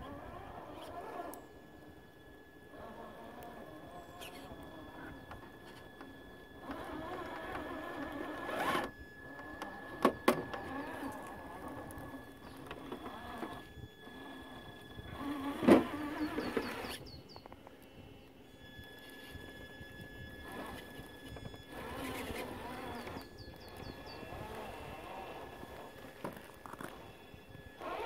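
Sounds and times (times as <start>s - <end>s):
high electronic whine: 0.0s - 28.0s
rc car motor whining: 0.0s - 28.0s.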